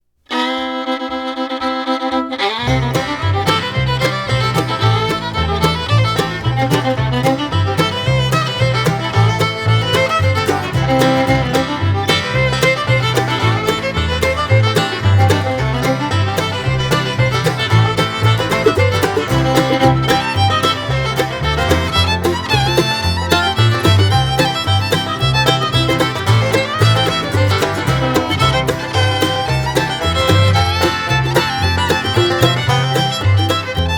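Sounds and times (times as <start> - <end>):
lively instrumental music: 0.3 - 33.9.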